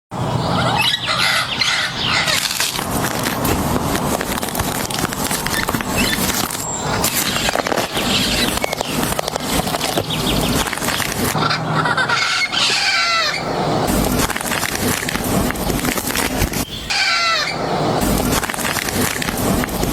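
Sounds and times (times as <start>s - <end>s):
parrots squawking: 0.4s - 3.5s, 4.6s - 15.1s, 16.3s - 19.0s.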